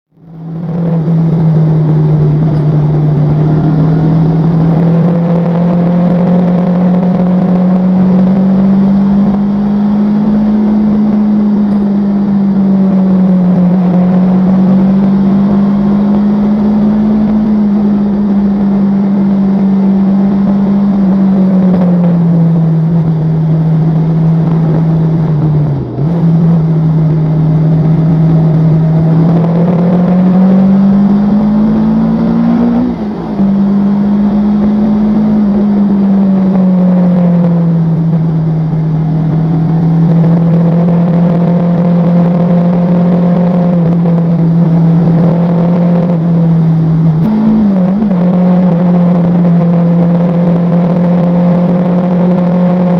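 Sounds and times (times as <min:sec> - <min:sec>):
vehicle low drone: 0:00.0 - 0:52.9.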